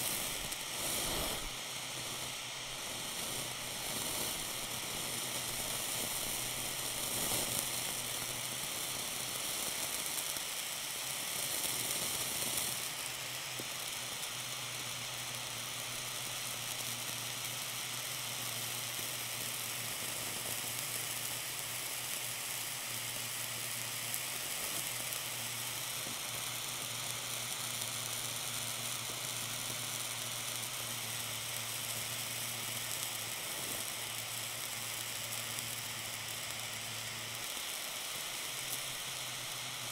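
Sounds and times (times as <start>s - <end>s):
blowtorch hissing: 0.0s - 39.9s
melting cheese sizzling: 0.0s - 39.9s.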